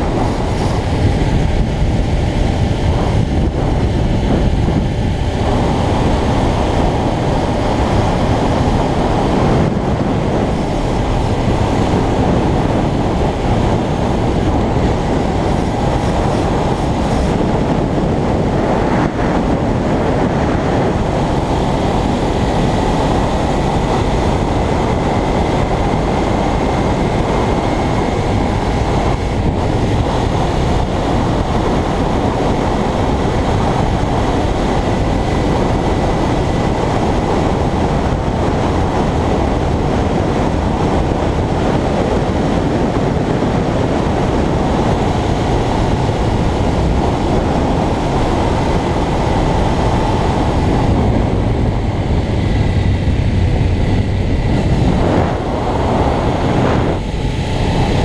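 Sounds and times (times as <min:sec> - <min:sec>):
motorcycle engine cruising: 0:00.0 - 0:58.0
wind and road rush: 0:00.0 - 0:58.0.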